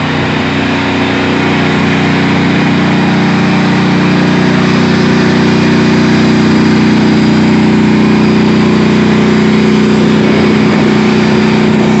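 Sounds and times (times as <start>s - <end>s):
tank engine running: 0.0s - 12.0s.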